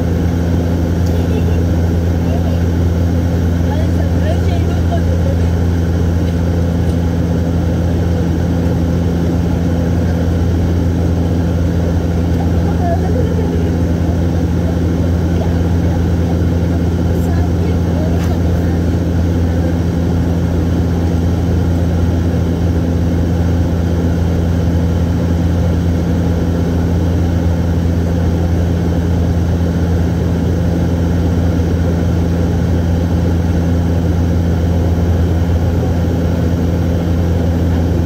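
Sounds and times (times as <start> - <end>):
turboprop drone in cabin: 0.0 - 38.0.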